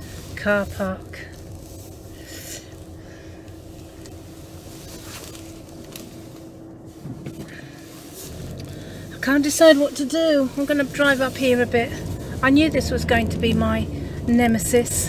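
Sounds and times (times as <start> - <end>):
car engine and tyre hum: 0.0 - 15.0.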